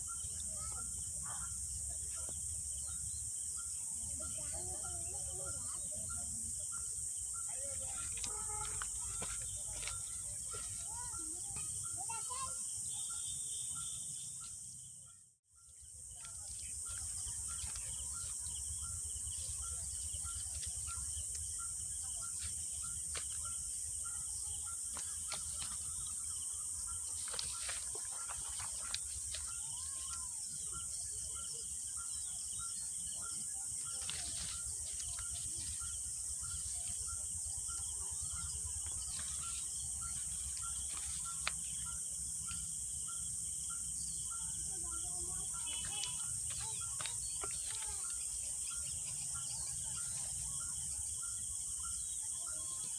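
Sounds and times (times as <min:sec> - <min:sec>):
high-pitched insect chorus: 0:00.0 - 0:52.9
short repeating insect call: 0:00.0 - 0:52.9.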